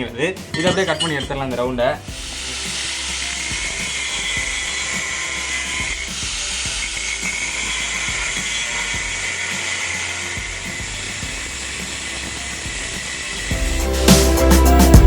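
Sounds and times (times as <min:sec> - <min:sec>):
steel pipe cutting hiss: 0:00.0 - 0:15.0.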